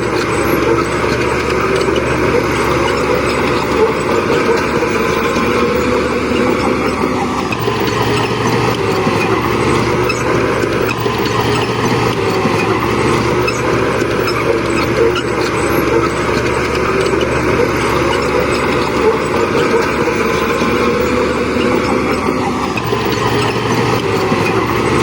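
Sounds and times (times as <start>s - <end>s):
heavy diesel machinery engine drone: 0.0s - 25.0s.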